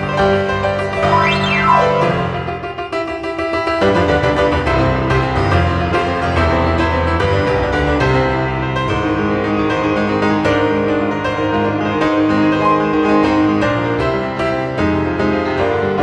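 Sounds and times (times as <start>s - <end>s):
lively piano piece: 0.0s - 16.0s.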